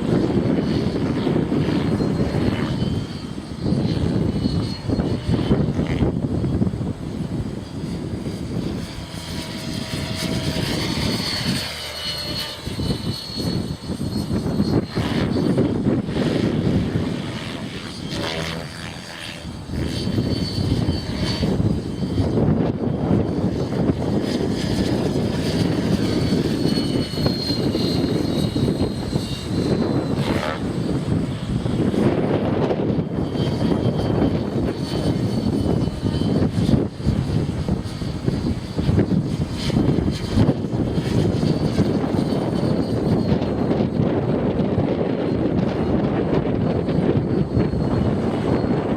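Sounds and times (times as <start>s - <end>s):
rc helicopter motor whine: 0.0s - 48.9s
wind buffeting microphone: 0.0s - 48.9s.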